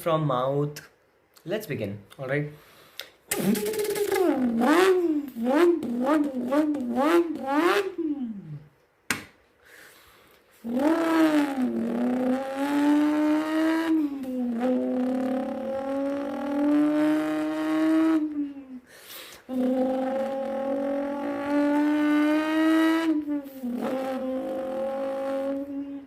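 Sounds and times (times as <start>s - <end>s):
person imitating engine with mouth: 3.3s - 8.8s, 10.6s - 26.0s.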